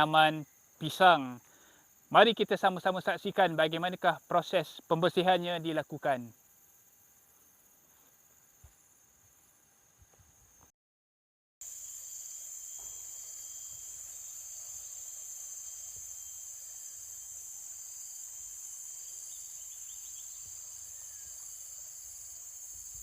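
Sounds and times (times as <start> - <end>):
insects chirring: 0.0 - 10.7, 11.6 - 23.0.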